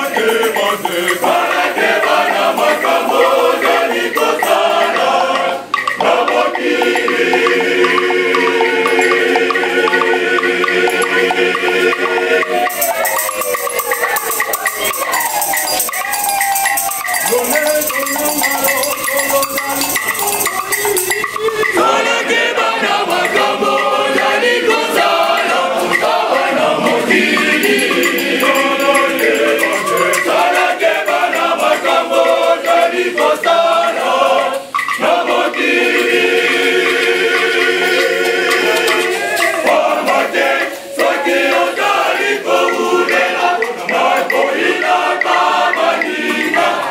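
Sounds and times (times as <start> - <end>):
group of voices singing: 0.0 - 46.9
tambourine jingling: 0.0 - 46.9.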